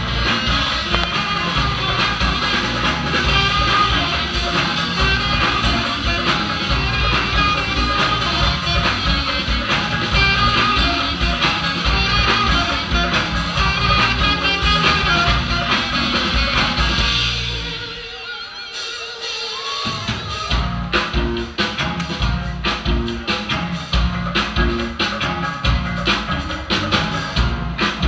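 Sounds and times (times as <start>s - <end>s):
live rock band: 0.0s - 28.0s.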